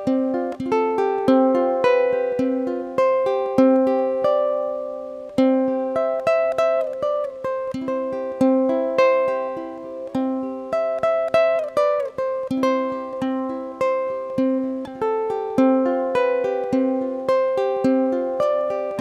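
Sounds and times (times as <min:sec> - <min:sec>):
plucked string instrument tune: 0:00.0 - 0:19.0.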